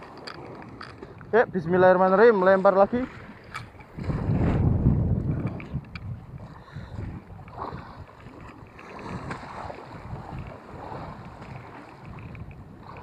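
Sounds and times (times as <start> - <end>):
choppy sea waves: 0.0 - 13.0
wind buffeting microphone: 0.0 - 13.0.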